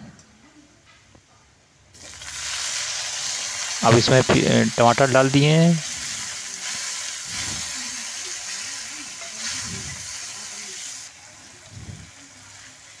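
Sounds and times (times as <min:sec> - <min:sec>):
vegetables sizzling in oil: 0:02.0 - 0:13.0.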